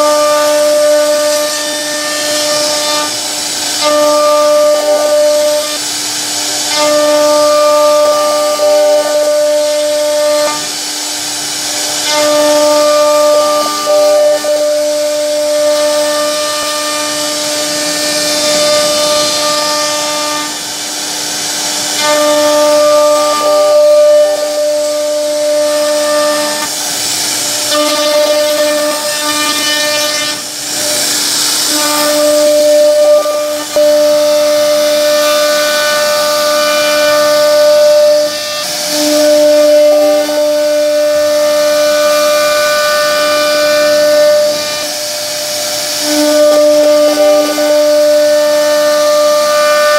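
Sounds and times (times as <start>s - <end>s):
cnc router spindle whining: 0.0s - 49.9s
hiss of cutting wood: 0.0s - 49.9s.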